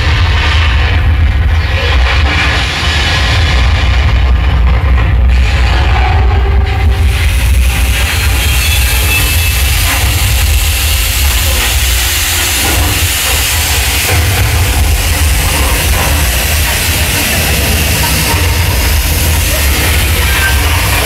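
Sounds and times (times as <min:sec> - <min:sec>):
hissing fire effects: 0:00.0 - 0:21.0
loud low rumble: 0:00.0 - 0:21.0.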